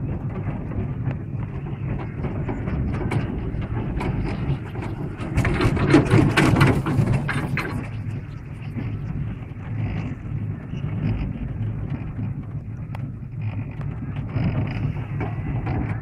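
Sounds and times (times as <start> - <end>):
chairlift low rumble: 0.0 - 16.0
chairlift rattling clatter: 0.0 - 16.0.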